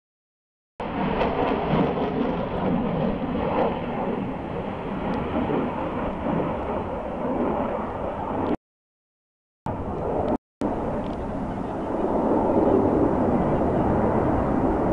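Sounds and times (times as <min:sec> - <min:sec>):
jet engines rumbling overhead: 0:00.8 - 0:08.6, 0:09.7 - 0:14.9.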